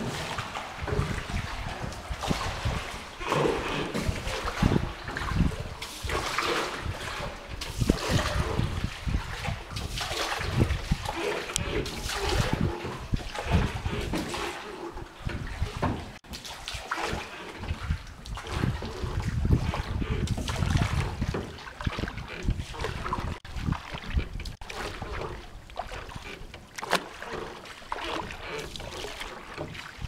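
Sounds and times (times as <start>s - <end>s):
water splashing around a boat: 0.0s - 30.0s.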